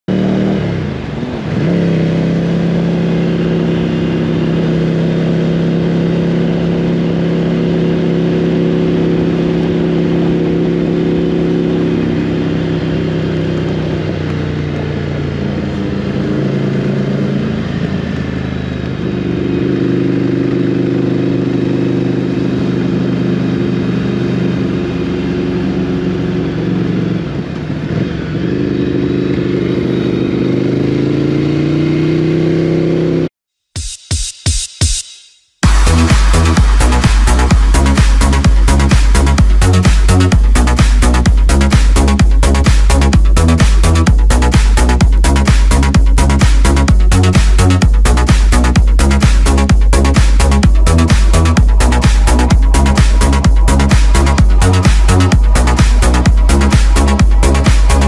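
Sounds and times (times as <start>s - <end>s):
motorcycle engine revving: 0.0s - 33.3s, 35.6s - 58.0s.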